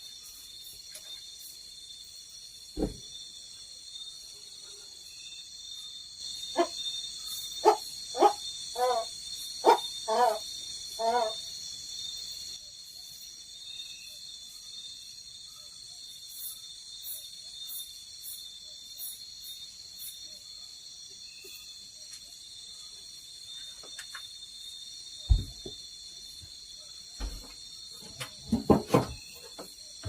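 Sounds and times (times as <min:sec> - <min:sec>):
crickets trilling: 0:00.0 - 0:30.0
high insect chirp: 0:00.0 - 0:30.0.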